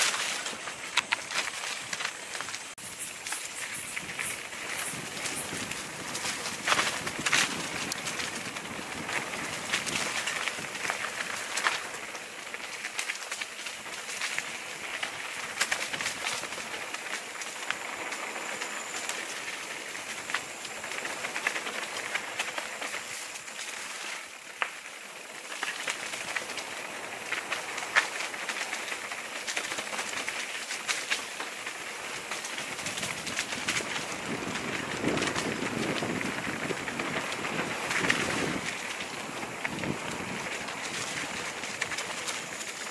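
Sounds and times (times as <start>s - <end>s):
bike rattling over bumps: 0.0s - 42.9s
bike tyres crunching on dirt: 0.0s - 42.9s.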